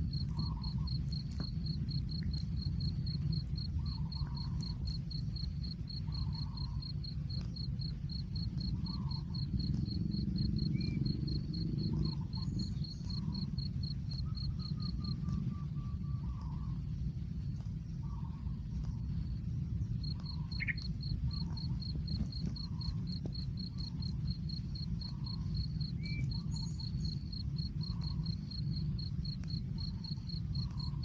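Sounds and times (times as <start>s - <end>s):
insect chirping: 0.0s - 31.0s
steady low rumble: 0.0s - 31.0s.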